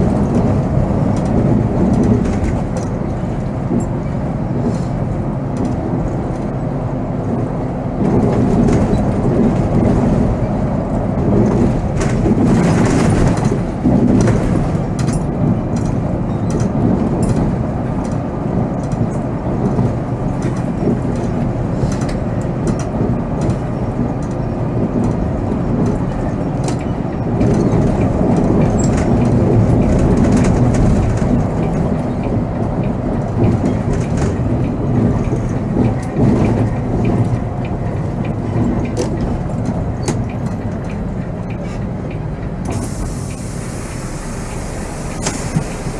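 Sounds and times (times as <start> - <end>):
diesel engine and road rumble: 0.0 - 45.9.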